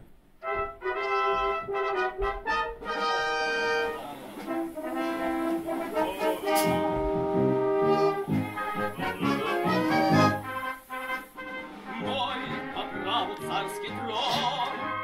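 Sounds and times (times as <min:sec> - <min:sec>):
brass fanfare: 0:00.4 - 0:15.0
trumpets and trombones chords: 0:00.4 - 0:15.0.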